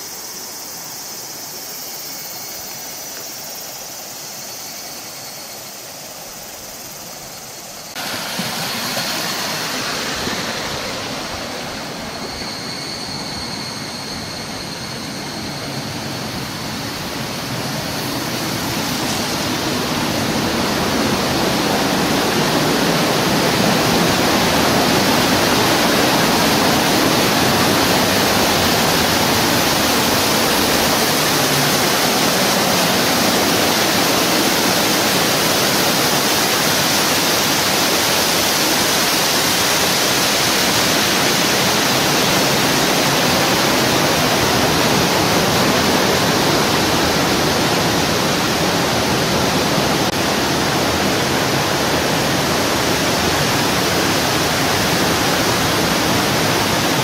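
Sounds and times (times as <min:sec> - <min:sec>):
rushing water roar: 0:00.0 - 0:57.0.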